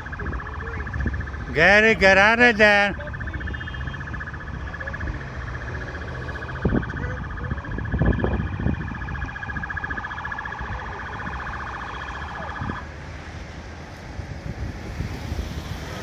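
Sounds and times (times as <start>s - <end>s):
pulsing electronic alarm: 0.0s - 12.9s
low street rumble: 0.0s - 16.0s.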